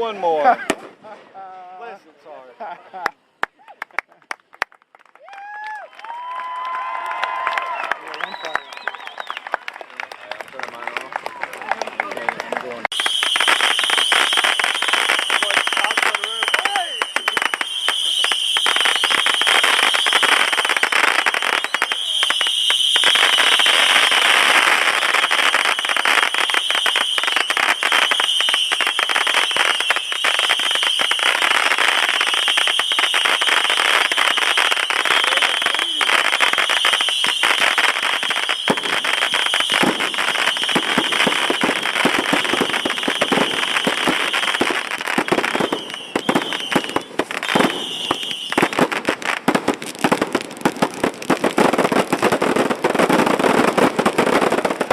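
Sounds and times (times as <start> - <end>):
fireworks crackling and popping: 0.0 - 54.9.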